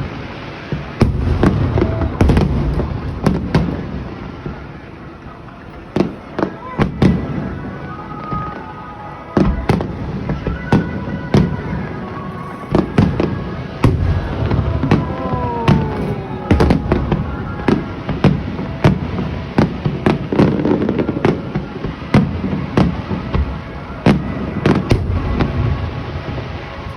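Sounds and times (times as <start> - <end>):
rumbling echo: 0.0 - 6.3, 9.6 - 26.9
fireworks bursting: 0.0 - 26.9.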